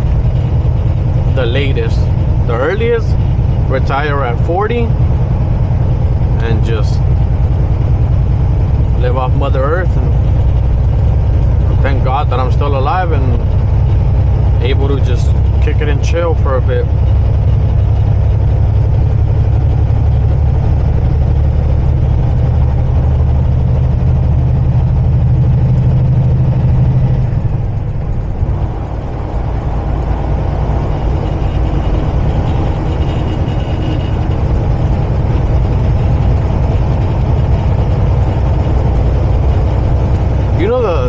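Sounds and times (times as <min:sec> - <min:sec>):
truck engine and road noise: 0:00.0 - 0:41.0.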